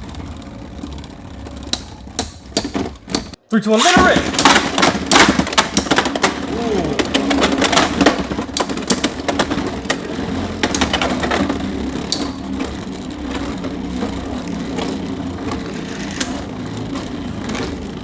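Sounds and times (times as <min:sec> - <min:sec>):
spinning top hum: 0:00.0 - 0:18.0.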